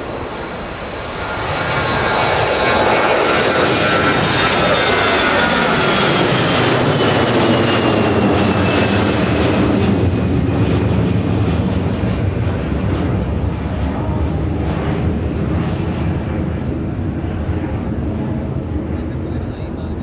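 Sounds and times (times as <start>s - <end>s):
high jet engine whine: 0.0s - 20.0s
jet airliner engines roaring: 0.0s - 20.0s.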